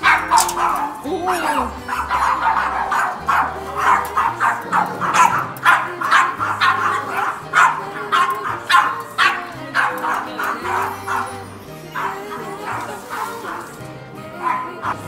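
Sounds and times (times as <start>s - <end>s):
background music: 0.0s - 15.0s
small dogs barking: 0.0s - 15.0s.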